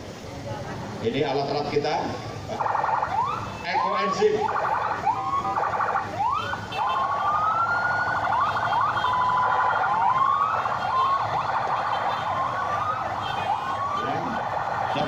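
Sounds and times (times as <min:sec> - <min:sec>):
sirens wailing: 0:01.4 - 0:15.0.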